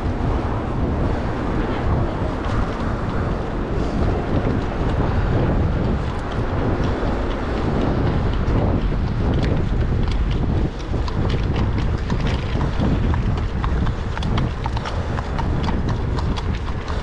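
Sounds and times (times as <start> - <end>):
city traffic: 0.0 - 17.0
wind buffeting microphone: 0.0 - 17.0.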